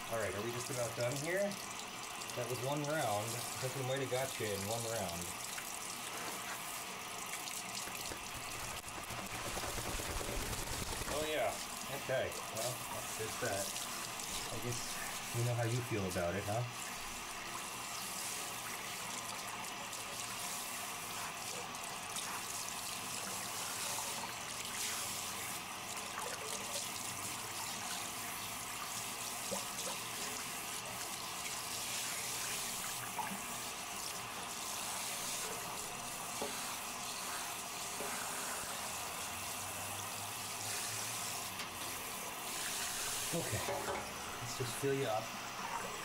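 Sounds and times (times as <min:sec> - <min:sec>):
shower head spraying water: 0:00.0 - 0:46.0.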